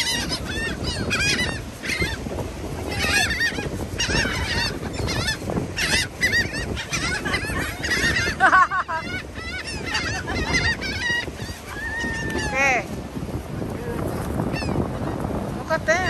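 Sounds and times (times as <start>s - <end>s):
seagulls calling: 0.0s - 13.0s, 13.6s - 16.0s.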